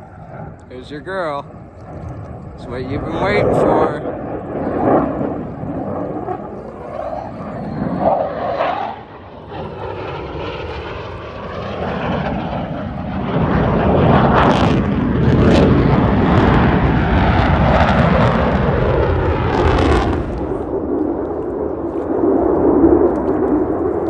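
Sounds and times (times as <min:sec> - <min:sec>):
loud crackling jet noise: 0:00.0 - 0:24.0.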